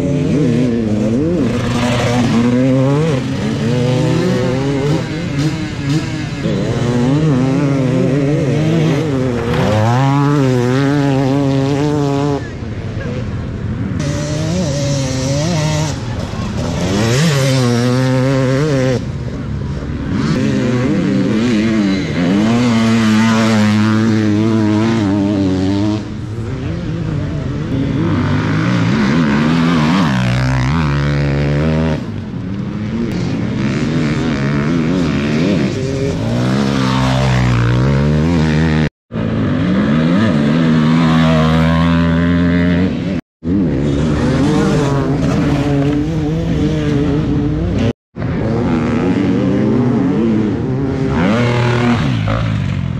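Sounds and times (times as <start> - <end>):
dirt bike engines racing: 0.0 - 52.9.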